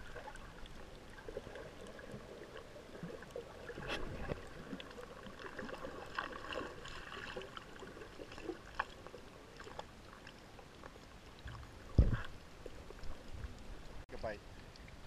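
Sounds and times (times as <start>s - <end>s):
small clicks and crackles: 0.0s - 15.0s
underwater water noise: 0.0s - 15.0s.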